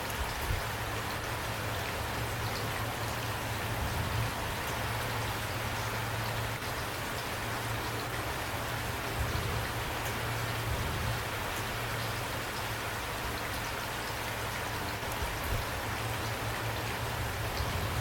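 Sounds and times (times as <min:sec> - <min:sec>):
raindrops ticking: 0:00.0 - 0:18.0
steady rain hiss: 0:00.0 - 0:18.0.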